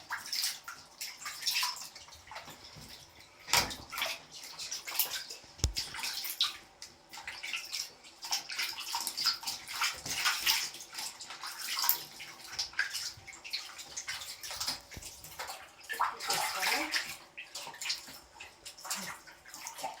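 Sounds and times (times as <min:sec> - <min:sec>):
water splashing and running: 0:00.0 - 0:20.0.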